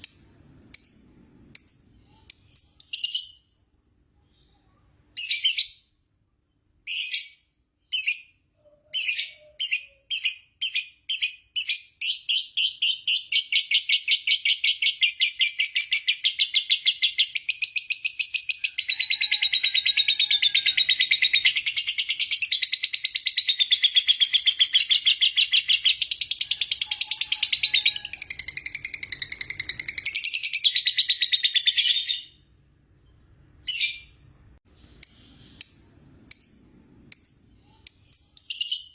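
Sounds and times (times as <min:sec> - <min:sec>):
bird chirping and trilling: 0:04.4 - 0:06.0, 0:06.8 - 0:32.5, 0:33.1 - 0:38.9.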